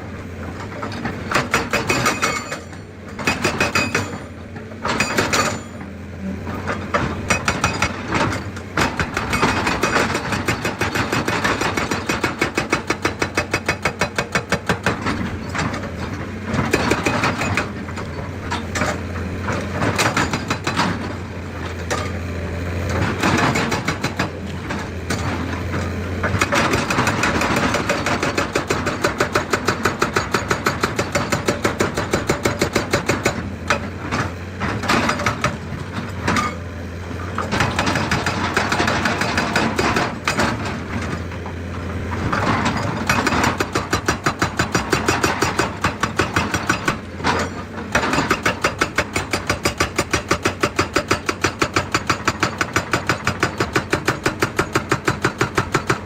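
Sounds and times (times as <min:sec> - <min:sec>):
hydraulic breaker hammering rock: 0:00.4 - 0:05.9, 0:06.5 - 0:56.0.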